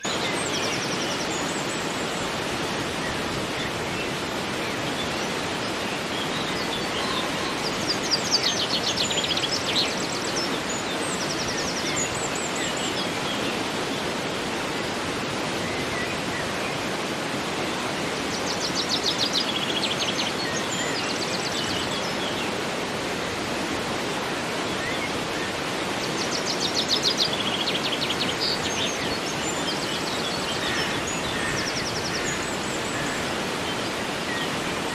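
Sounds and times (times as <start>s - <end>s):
river rushing: 0.0s - 34.9s.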